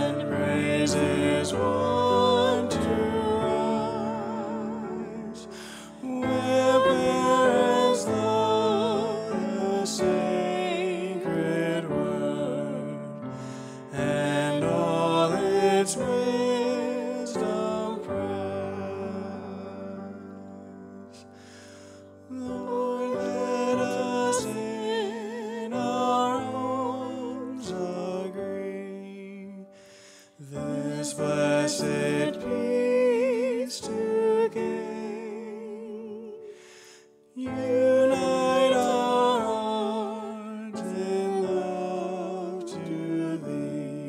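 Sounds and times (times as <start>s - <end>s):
grand piano accompaniment: 0.0s - 44.0s.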